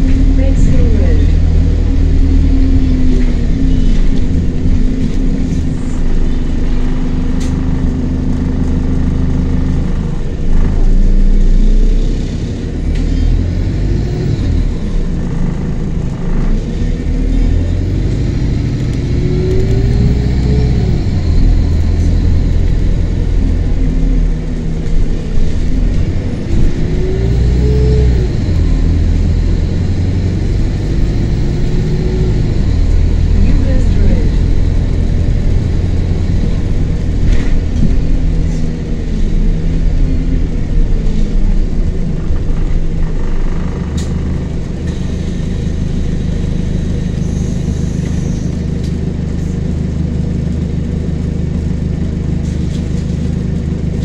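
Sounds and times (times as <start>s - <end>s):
bus engine accelerating: 0.0s - 54.0s.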